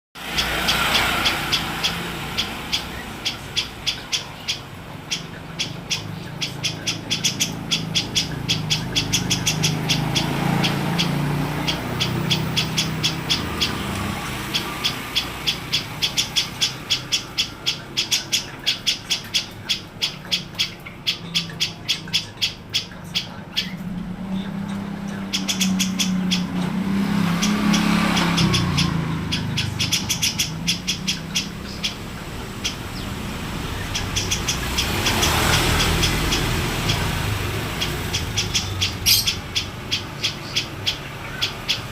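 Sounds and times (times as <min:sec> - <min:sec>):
songbird chirping: 0:00.2 - 0:41.9.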